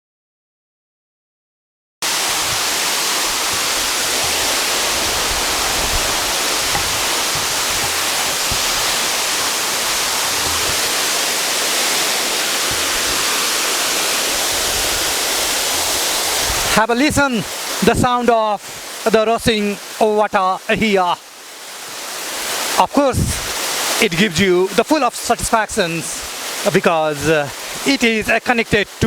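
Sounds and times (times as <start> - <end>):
waterfall rushing: 2.0 - 29.0.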